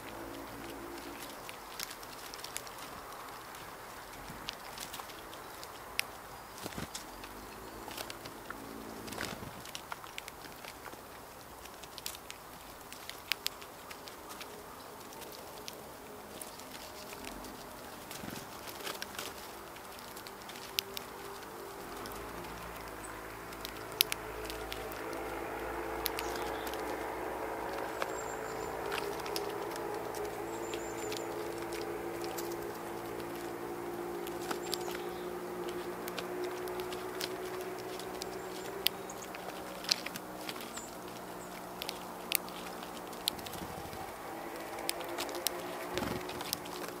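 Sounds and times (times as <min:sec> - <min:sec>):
birds pecking and tapping: 0:00.0 - 0:47.0
low hum: 0:00.0 - 0:47.0.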